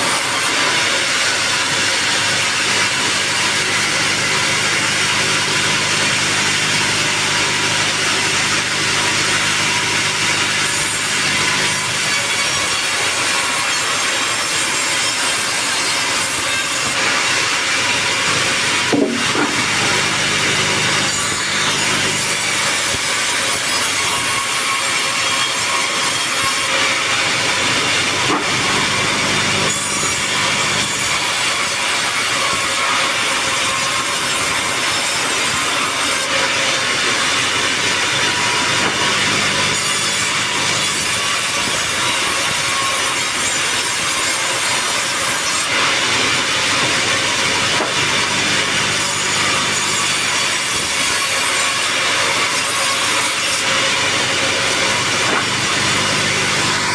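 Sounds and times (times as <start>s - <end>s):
saw rasping through log: 0.0s - 56.9s.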